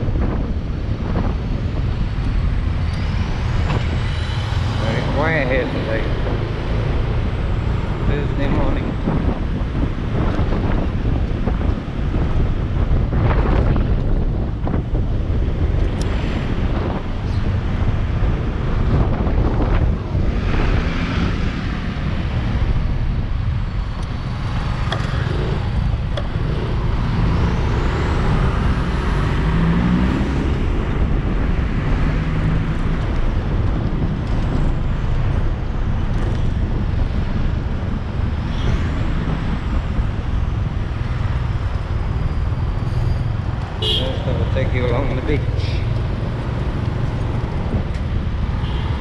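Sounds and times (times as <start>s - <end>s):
passing vehicles: 0.0s - 49.0s
wind rumble on microphone: 0.0s - 49.0s.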